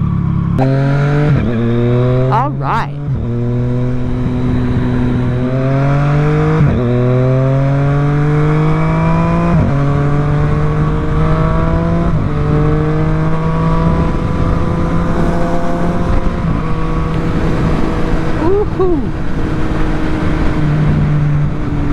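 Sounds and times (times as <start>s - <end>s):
motorcycle engine accelerating: 0.0s - 2.4s, 3.0s - 21.9s.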